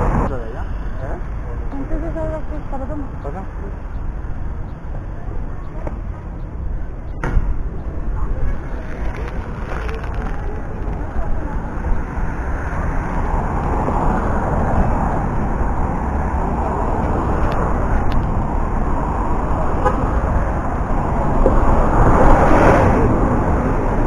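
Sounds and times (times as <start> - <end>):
cars passing: 0.0 - 24.0.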